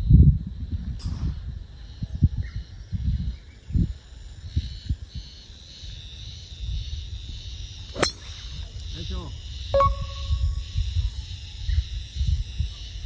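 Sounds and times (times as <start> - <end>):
faint birdsong or insects: 0.0 - 13.0
wind rumbling on microphone: 0.0 - 13.0.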